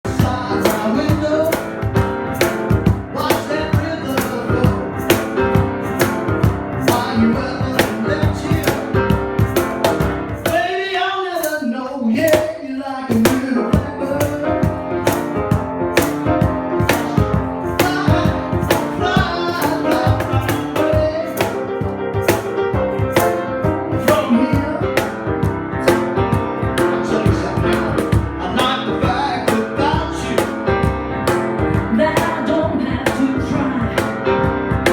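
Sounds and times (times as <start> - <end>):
live band playing jazz-blues: 0.0 - 11.6, 13.1 - 34.9.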